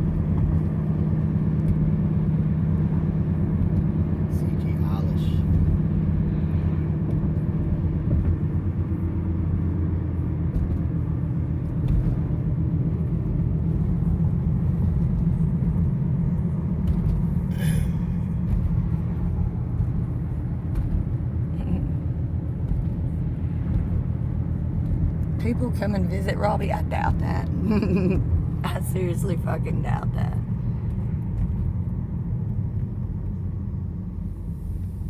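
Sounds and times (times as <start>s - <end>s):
car engine and tyre noise: 0.0s - 35.0s.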